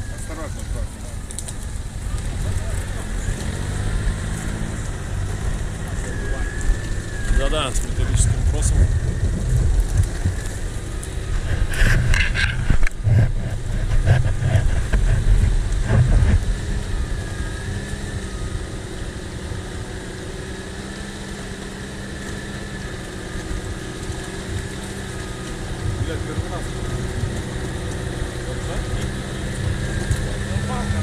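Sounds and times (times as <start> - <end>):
off-road engine running: 0.0 - 31.0.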